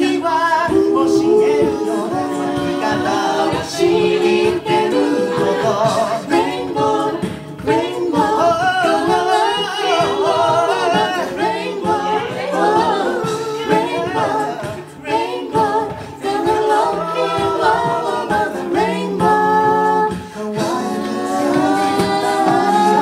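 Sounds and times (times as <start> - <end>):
bass vocal line: 0.0 - 23.0
beatboxing: 0.0 - 23.0
chorus singing harmony chords: 0.0 - 23.0
lead voice singing: 0.0 - 23.0.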